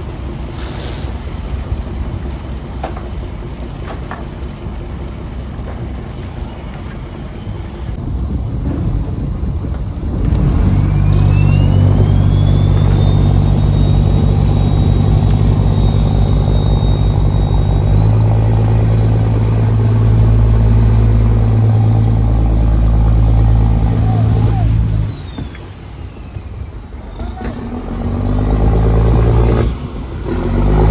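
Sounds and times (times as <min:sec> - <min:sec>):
diesel engine running hard: 0:00.0 - 0:30.9
high engine whine: 0:01.5 - 0:30.9.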